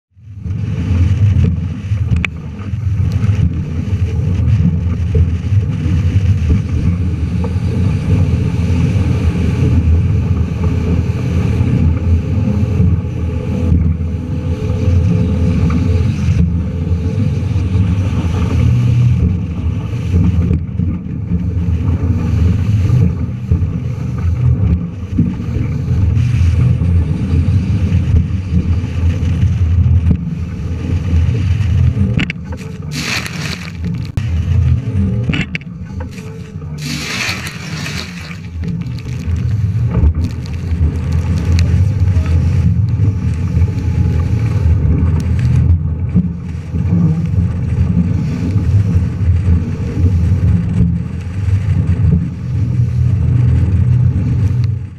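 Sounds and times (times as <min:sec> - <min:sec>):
boat engine running: 0:00.1 - 0:54.9
water rushing along hull: 0:00.1 - 0:54.9
wind buffeting microphone: 0:00.3 - 0:54.9.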